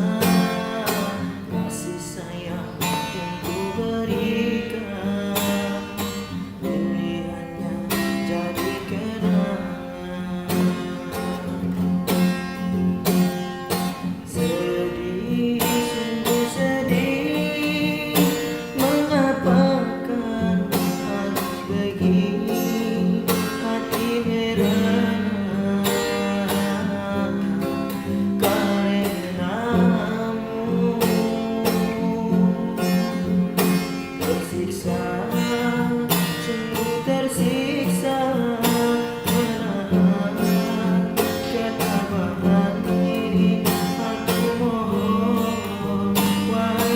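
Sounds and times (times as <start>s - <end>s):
guitar strumming: 0.0s - 46.9s
person singing: 0.0s - 46.9s.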